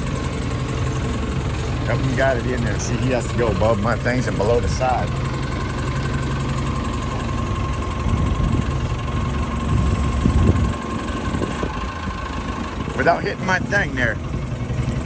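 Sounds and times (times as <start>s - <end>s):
forklift engine running: 0.0s - 15.0s
steady whine: 0.0s - 15.0s.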